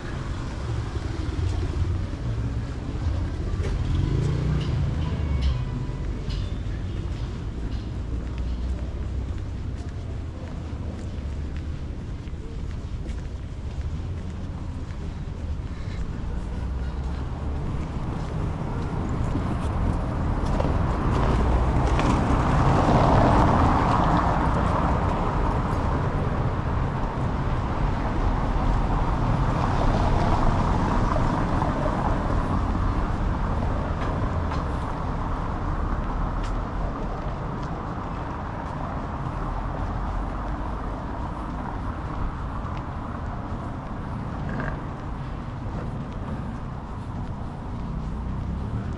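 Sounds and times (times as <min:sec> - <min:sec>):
cars passing: 0:00.0 - 0:48.9.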